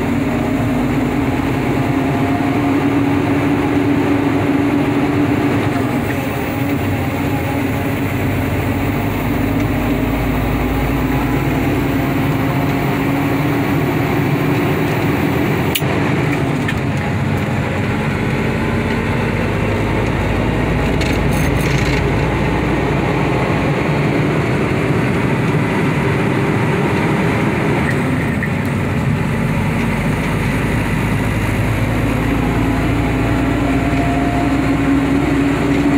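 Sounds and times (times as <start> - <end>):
road and tyre noise: 0.0 - 35.9
truck engine running: 0.0 - 35.9.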